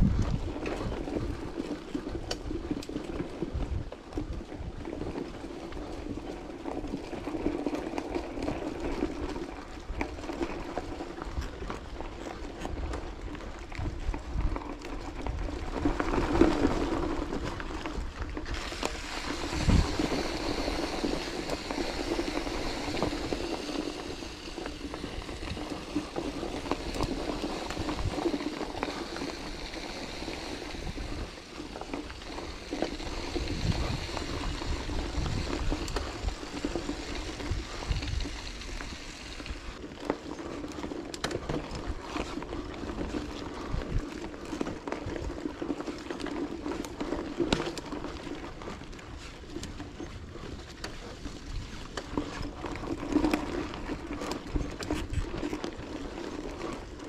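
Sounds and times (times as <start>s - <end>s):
bicycle rolling noise: 0.0s - 57.0s.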